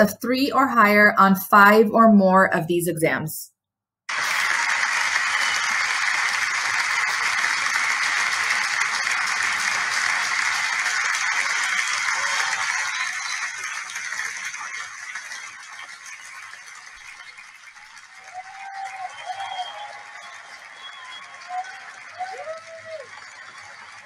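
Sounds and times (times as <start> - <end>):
crowd applause: 4.1 - 24.0.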